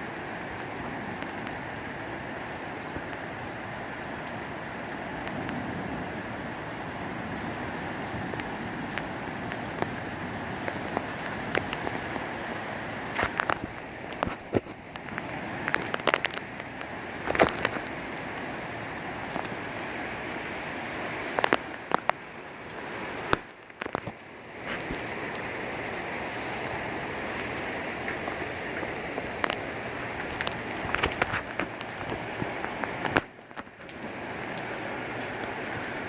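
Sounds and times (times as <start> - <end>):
heavy rain: 0.0 - 36.0
wind: 0.0 - 36.0.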